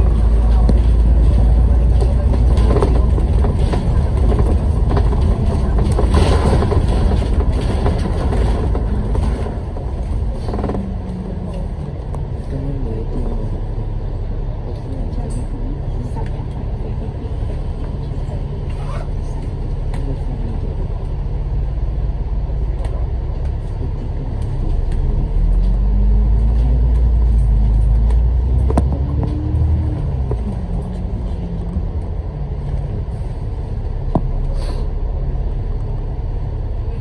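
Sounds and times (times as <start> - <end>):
bus engine rumbling: 0.0 - 37.0.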